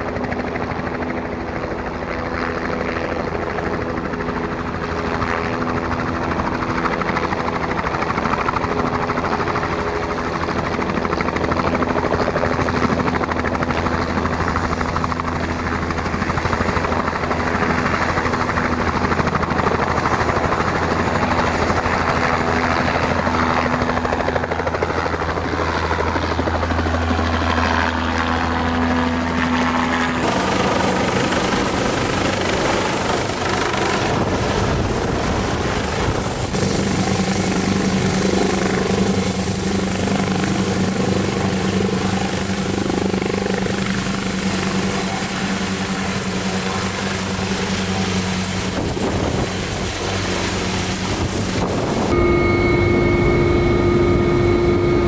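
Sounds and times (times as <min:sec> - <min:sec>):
helicopter rotor and turbine whine: 0:00.0 - 0:55.0
larger helicopter running on tarmac: 0:00.0 - 0:55.0.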